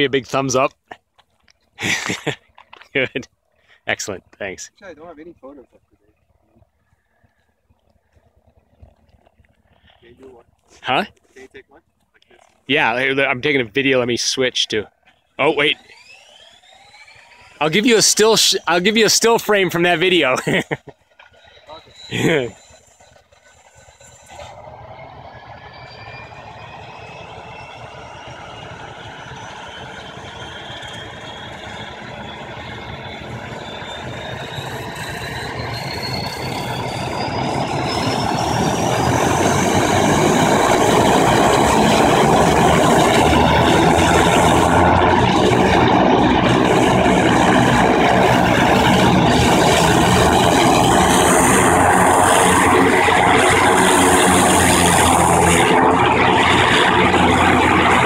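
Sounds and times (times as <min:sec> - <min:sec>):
turboprop engine starting up: 0:01.8 - 0:58.0.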